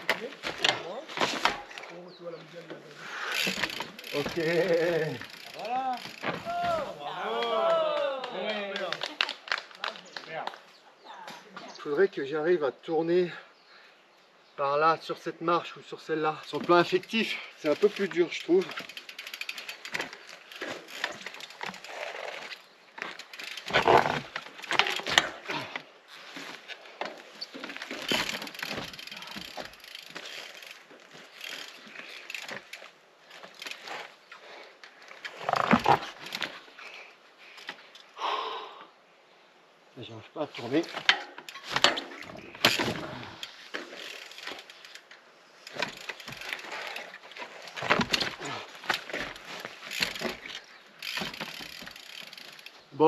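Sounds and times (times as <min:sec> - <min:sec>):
bike knocking and scraping on rock: 0:00.0 - 0:10.7, 0:16.4 - 0:34.3, 0:34.9 - 0:36.8, 0:40.6 - 0:53.0.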